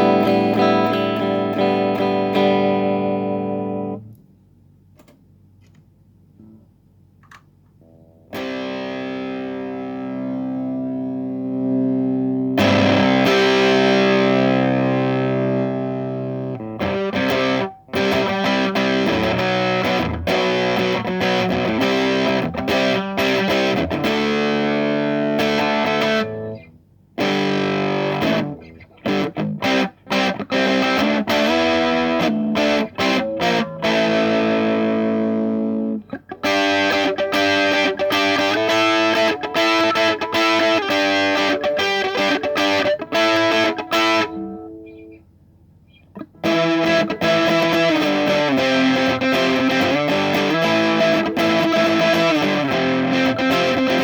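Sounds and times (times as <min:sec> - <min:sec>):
distorted electric guitar: 0:00.0 - 0:04.1, 0:07.8 - 0:45.2, 0:45.9 - 0:54.0.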